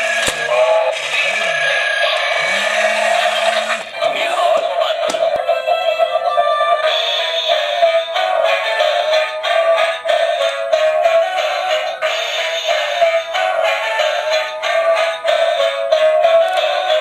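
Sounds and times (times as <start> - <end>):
music with synthetic singing voice: 0.0 - 17.0.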